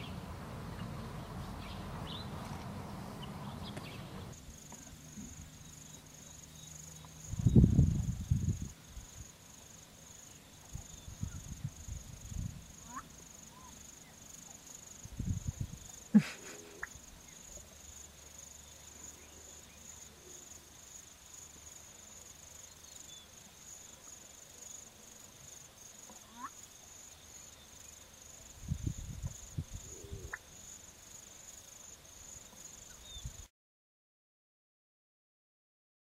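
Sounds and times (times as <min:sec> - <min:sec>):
high insect buzz: 0:01.0 - 0:33.5.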